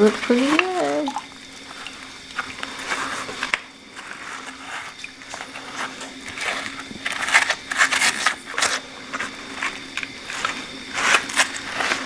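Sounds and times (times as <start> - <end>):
faint steady hum: 0.0 - 12.0
gloves rubbing on wet metal: 0.3 - 12.0.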